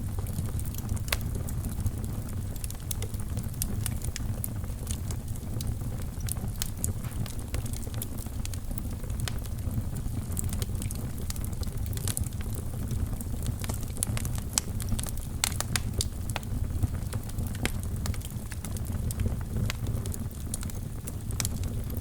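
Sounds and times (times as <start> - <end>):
fire crackling and popping: 0.0 - 22.0
low rumble of fire: 0.0 - 22.0.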